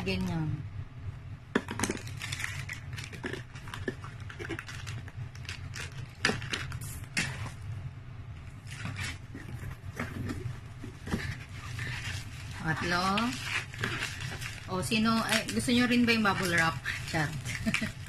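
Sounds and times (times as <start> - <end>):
low steady hum: 0.0 - 18.0
bubble wrap and plastic crinkling: 1.6 - 7.7, 8.3 - 18.0.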